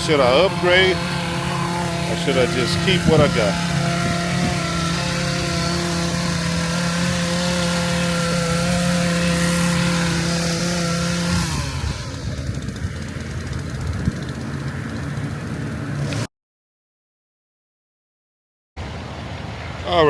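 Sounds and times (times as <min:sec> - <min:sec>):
engine droning hum: 0:00.0 - 0:16.3.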